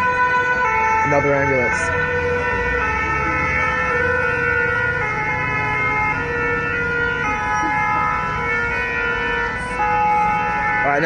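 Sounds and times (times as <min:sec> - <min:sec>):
road traffic rumble: 0:00.0 - 0:11.0
two-tone ambulance siren: 0:00.0 - 0:11.0.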